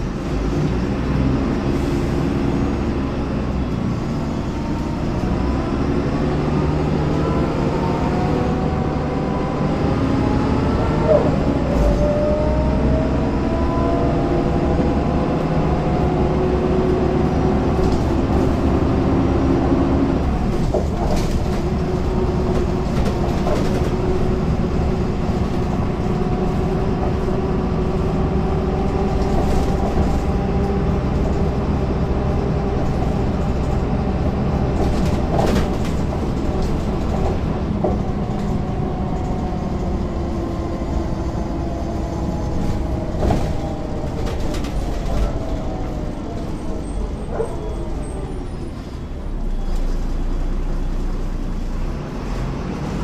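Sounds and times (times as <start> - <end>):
bus diesel engine idling: 0.0 - 53.0.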